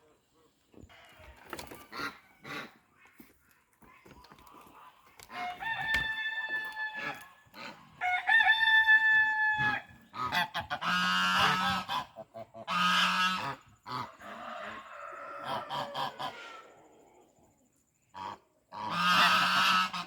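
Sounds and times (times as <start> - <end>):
geese honking: 1.8 - 16.6, 18.2 - 20.0.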